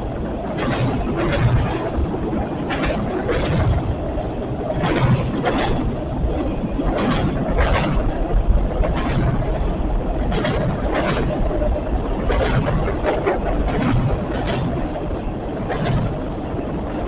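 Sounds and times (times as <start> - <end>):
train rumbling past: 0.0 - 17.0
train wheels clacking: 0.0 - 17.0.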